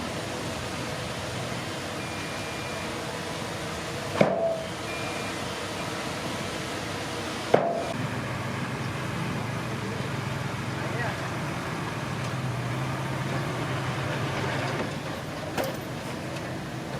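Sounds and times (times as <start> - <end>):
bulldozer working: 0.0 - 16.9.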